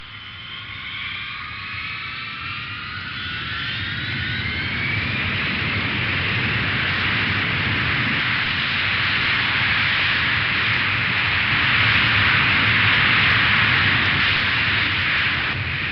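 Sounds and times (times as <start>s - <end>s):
jet engines spooling up: 0.0s - 15.9s.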